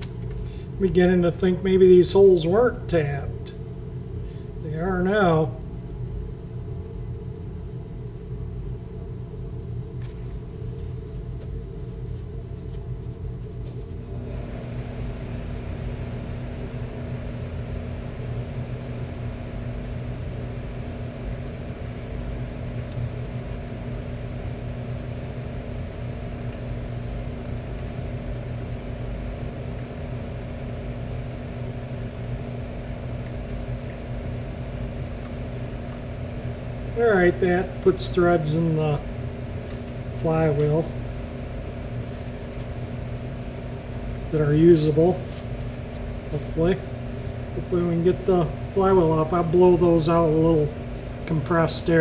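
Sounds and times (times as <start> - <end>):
mechanical hum: 0.0 - 52.0.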